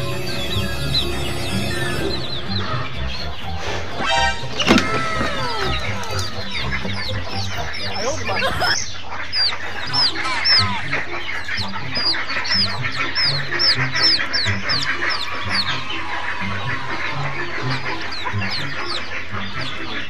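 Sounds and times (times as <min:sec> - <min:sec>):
background music: 0:00.0 - 0:20.0
chicks peeping: 0:00.0 - 0:20.0.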